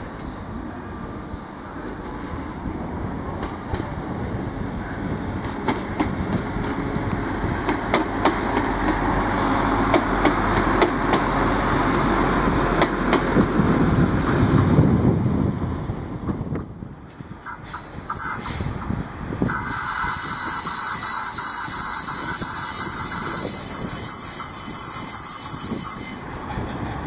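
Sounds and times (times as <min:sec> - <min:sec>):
diesel train engines droning: 0:00.0 - 0:27.0.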